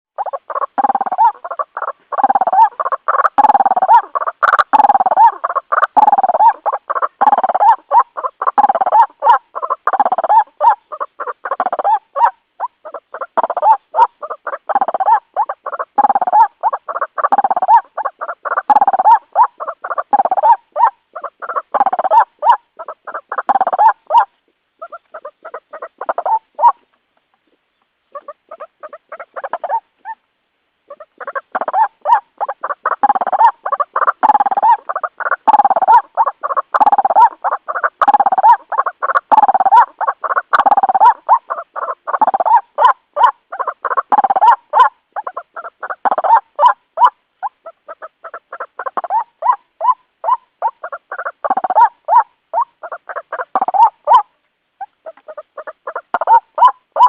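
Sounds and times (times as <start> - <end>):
bird calling rapidly: 0.2 - 26.9, 28.0 - 30.3, 30.9 - 57.0.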